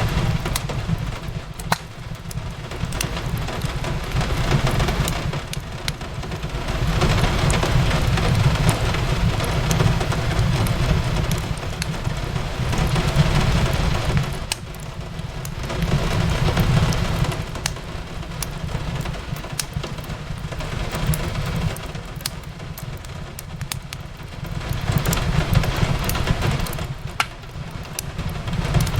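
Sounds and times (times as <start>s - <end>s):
rain on a window: 0.0s - 28.9s
wood fire crackling: 0.0s - 28.9s.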